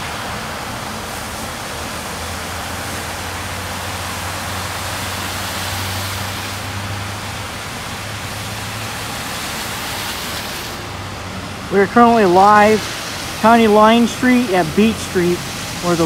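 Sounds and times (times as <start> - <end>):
low engine hum: 0.0 - 16.0
tyres splashing through flood water: 0.0 - 16.0.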